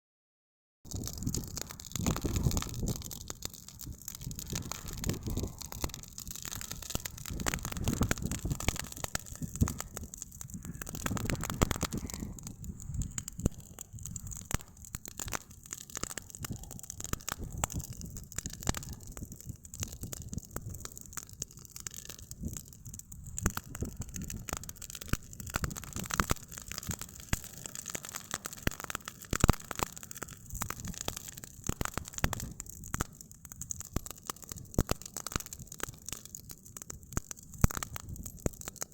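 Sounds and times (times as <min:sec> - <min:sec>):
campfire wood crackling and popping: 0:00.9 - 0:38.9.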